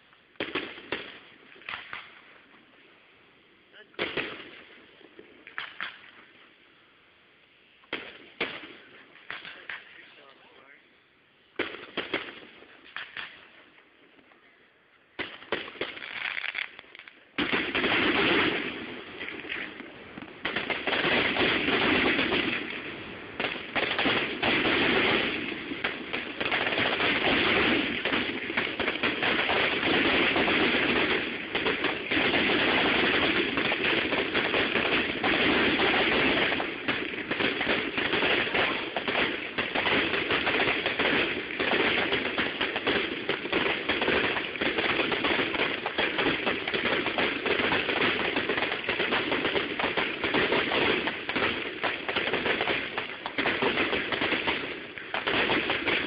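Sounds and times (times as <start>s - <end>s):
fireworks bangs and crackle: 0.0s - 14.4s, 15.1s - 56.0s.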